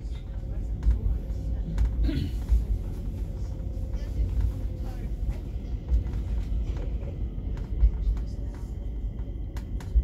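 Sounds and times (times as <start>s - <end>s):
train rumbling inside carriage: 0.0s - 10.0s.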